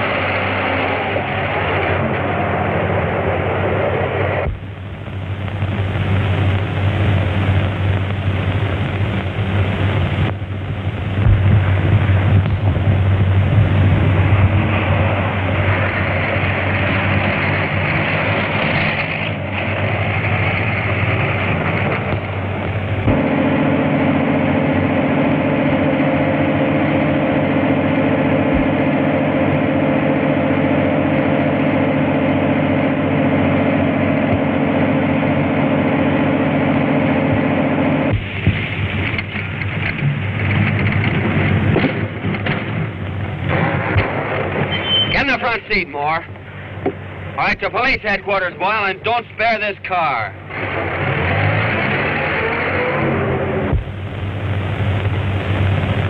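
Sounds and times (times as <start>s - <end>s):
motor engine running loudly: 0.0s - 45.6s, 50.4s - 56.0s.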